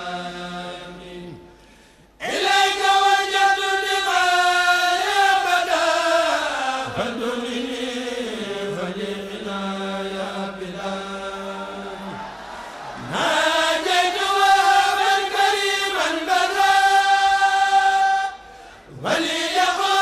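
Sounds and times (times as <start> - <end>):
men chanting in unison: 2.2 - 20.0.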